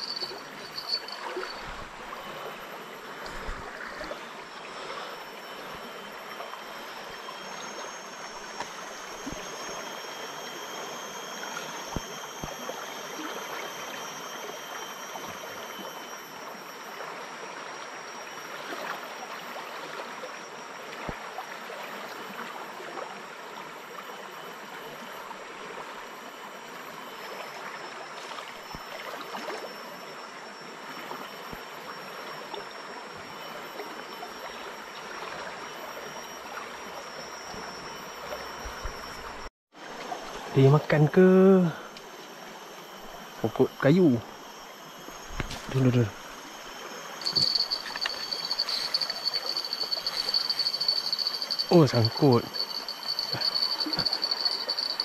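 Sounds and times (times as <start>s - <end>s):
faint high-pitched tones: 0.0s - 55.0s.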